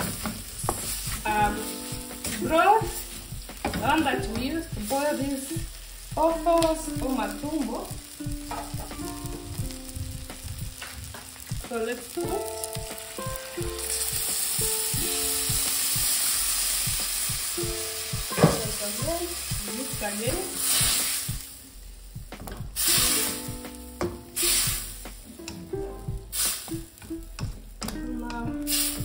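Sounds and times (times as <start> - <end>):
loud sizzle: 0.0 - 29.0.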